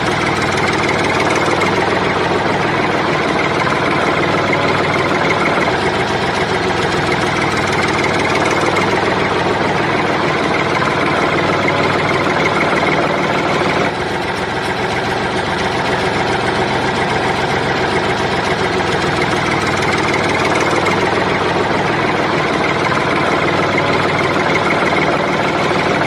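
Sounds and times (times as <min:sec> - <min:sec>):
motor running steadily: 0:00.0 - 0:26.0.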